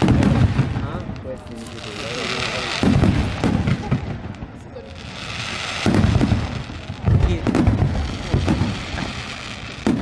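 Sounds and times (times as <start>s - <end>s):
crackling hiss of fireworks: 0.0s - 10.0s
fireworks booming: 0.0s - 10.0s.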